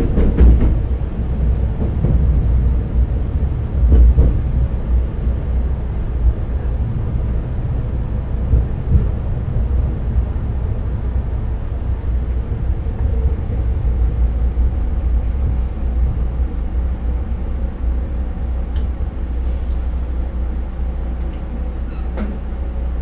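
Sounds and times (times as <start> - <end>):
railcar rumbling on track: 0.0 - 23.0.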